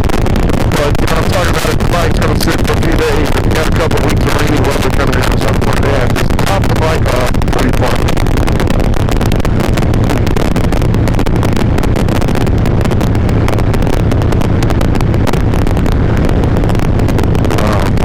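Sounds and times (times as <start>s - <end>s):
motorcycle engine running: 0.0s - 18.0s
wind rush: 0.0s - 18.0s.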